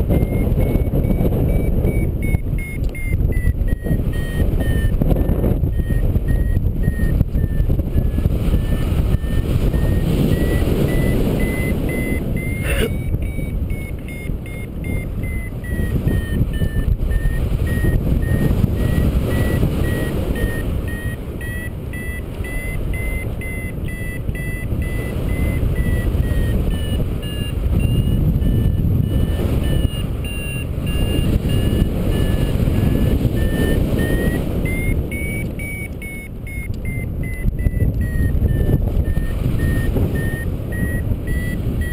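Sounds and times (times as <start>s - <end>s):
variometer beeping rapidly: 0.0s - 41.9s
wind noise on microphone: 0.0s - 41.9s.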